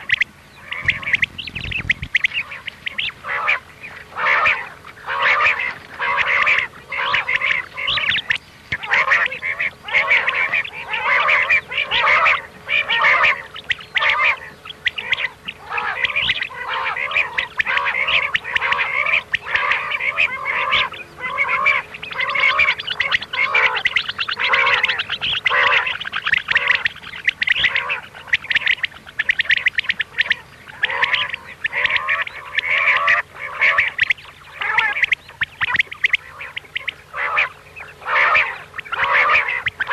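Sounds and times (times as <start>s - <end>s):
faint steady hum: 0.0s - 39.9s
quail calling: 0.0s - 39.9s.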